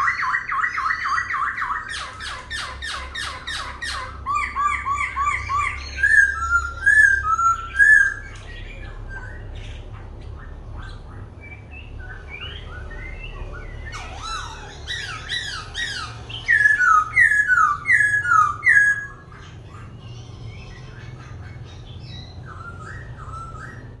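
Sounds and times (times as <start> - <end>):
bird singing whistled notes: 0.0 - 19.9, 20.6 - 24.0.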